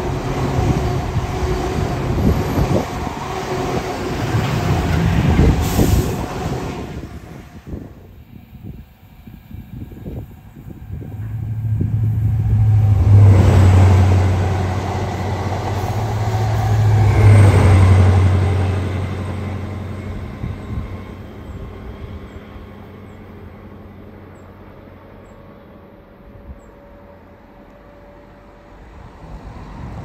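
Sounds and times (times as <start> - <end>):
train engine drone: 0.0 - 30.0
train rail noise: 0.0 - 30.0.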